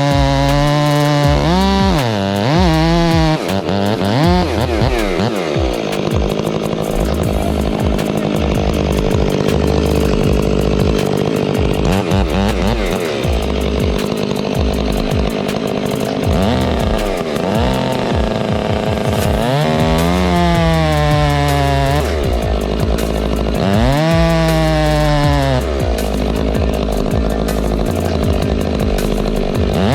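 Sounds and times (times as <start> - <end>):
chainsaw cutting through wood: 0.0 - 29.9.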